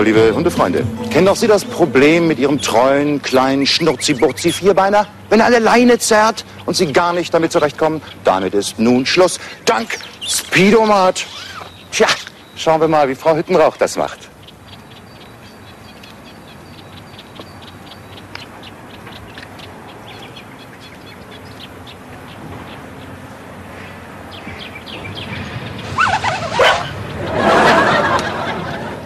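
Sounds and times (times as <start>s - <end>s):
birds chirping: 0.0s - 29.0s
outdoor background: 0.0s - 29.0s.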